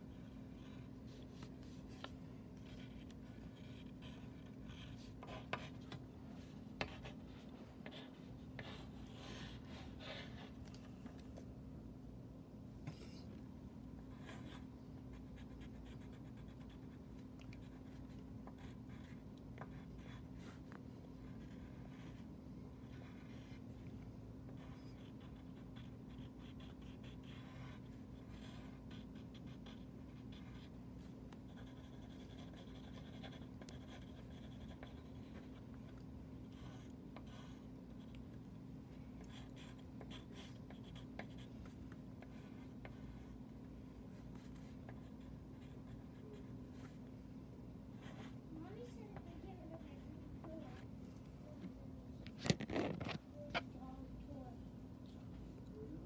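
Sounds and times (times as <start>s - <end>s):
steady low hum: 0.0s - 56.0s
pencil scratching on paper: 0.1s - 10.7s, 14.1s - 38.4s, 39.2s - 47.1s, 47.9s - 50.9s, 52.3s - 53.6s.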